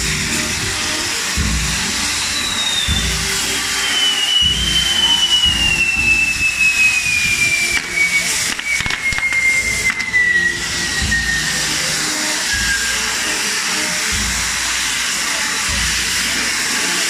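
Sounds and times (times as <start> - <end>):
falling firework whistle: 0.0 - 17.0
fireworks hissing: 0.0 - 17.0
sharp firework cracks: 0.0 - 17.0.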